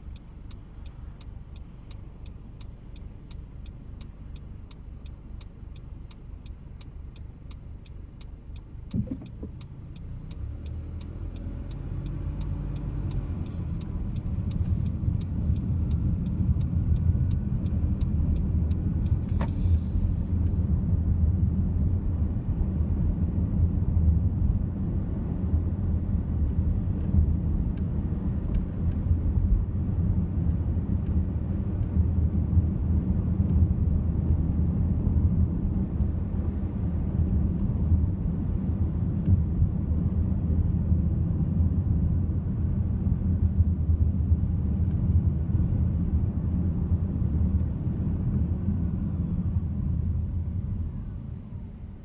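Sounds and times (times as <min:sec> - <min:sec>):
car cabin road rumble: 0:00.0 - 0:52.0.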